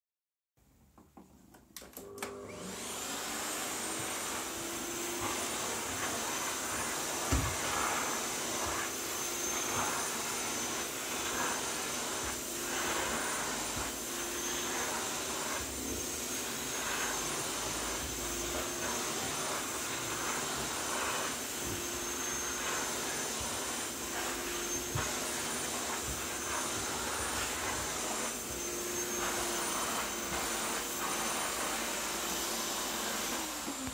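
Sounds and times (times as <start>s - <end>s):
vacuum cleaner whining: 1.8s - 33.9s.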